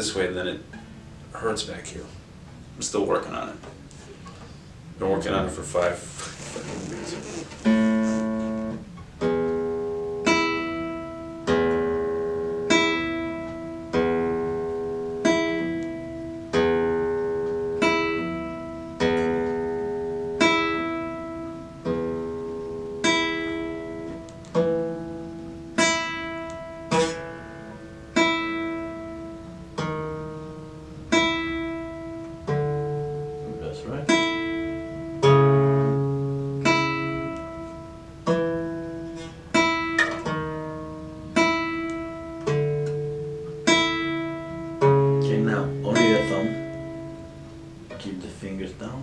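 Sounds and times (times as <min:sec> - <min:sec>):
classical guitar plucked chords: 0:06.6 - 0:49.0.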